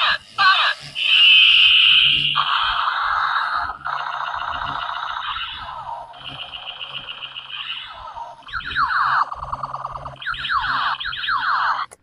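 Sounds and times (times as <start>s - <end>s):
falling laser zaps: 0.0s - 12.0s
warbling pulsing electronic tone: 0.0s - 12.0s.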